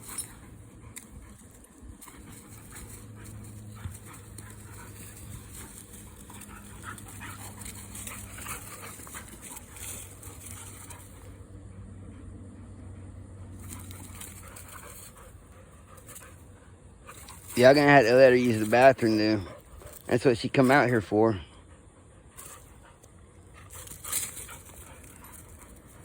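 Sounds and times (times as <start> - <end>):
dogs scuffling: 0.0 - 11.4, 13.5 - 16.5, 17.1 - 21.0, 22.4 - 26.0
low hum: 0.0 - 26.0.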